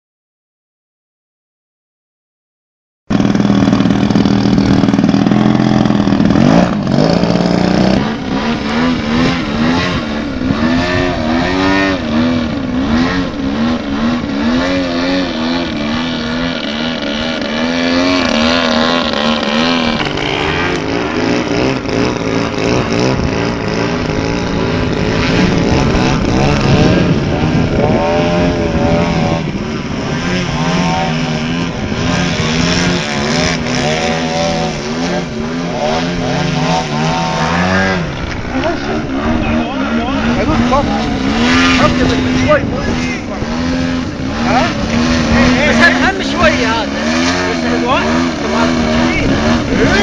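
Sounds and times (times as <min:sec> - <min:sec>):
model plane engine running: 0:03.1 - 0:50.0.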